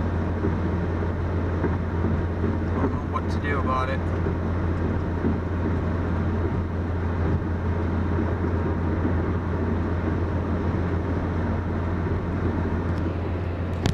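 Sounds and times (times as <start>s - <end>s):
car engine drone and rumble: 0.0s - 13.9s.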